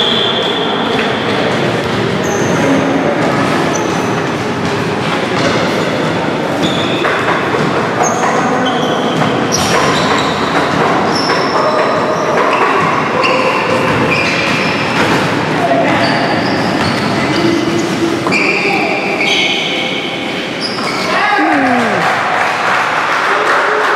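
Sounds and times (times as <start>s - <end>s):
steady din in large hall: 0.0s - 23.9s.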